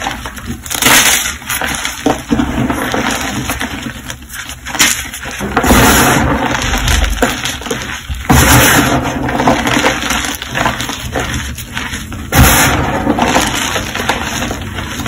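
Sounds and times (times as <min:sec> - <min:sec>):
hands crumbling chalk: 0:00.0 - 0:15.0.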